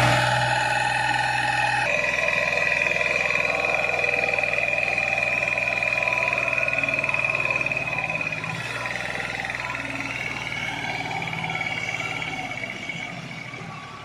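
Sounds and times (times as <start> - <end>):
diesel engine running: 0.0 - 14.0
high whine: 0.0 - 14.0.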